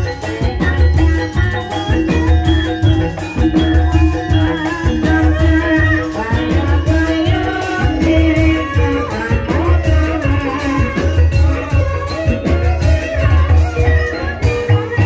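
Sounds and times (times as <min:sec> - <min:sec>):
person singing: 0:00.0 - 0:15.0
traditional ensemble playing a melody: 0:00.0 - 0:15.0.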